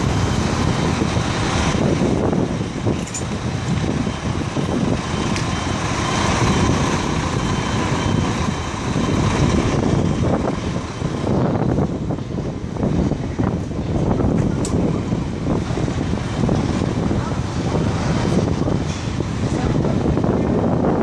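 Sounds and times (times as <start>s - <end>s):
diesel trucks and machinery running: 0.0s - 21.0s.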